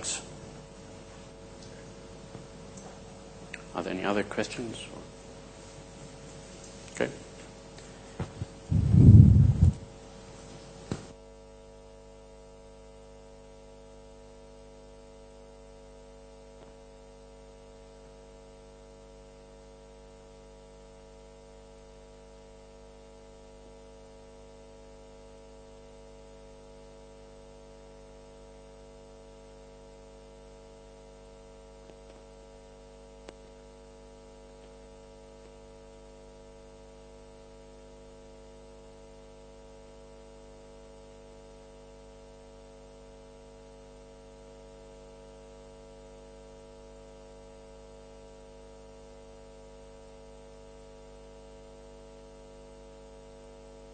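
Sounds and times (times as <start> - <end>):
faint electrical hum: 0.0 - 53.9.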